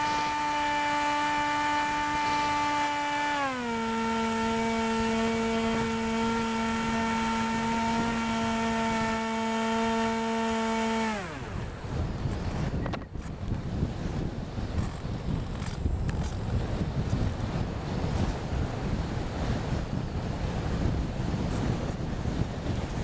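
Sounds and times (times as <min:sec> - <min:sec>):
model airplane motor whining: 0:00.0 - 0:23.0.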